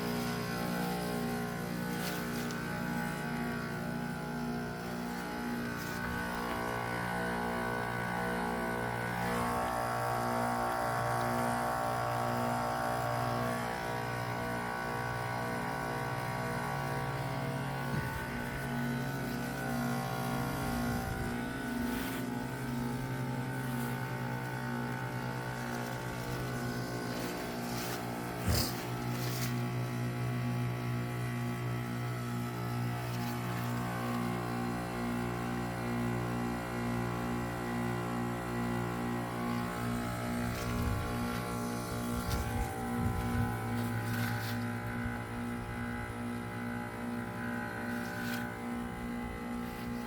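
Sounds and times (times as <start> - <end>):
heat pump unit humming: 0.0 - 50.0.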